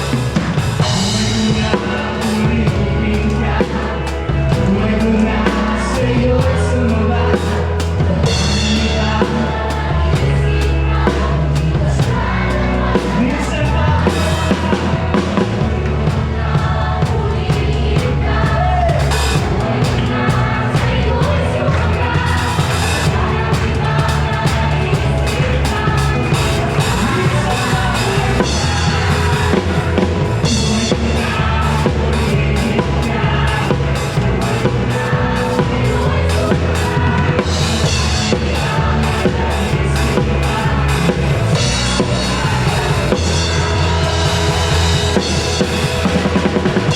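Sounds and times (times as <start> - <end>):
person singing: 0.0 - 15.5, 16.6 - 46.9
bass: 0.0 - 46.9
drum kit: 0.0 - 46.9
live band playing: 0.0 - 46.9.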